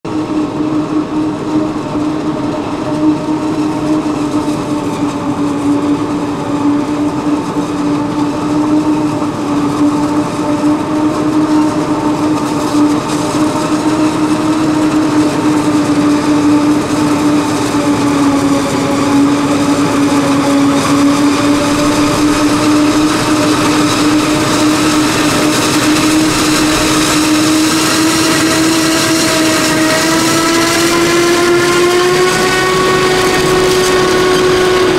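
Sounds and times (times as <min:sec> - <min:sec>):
forage harvester droning hum: 0:00.1 - 0:34.9.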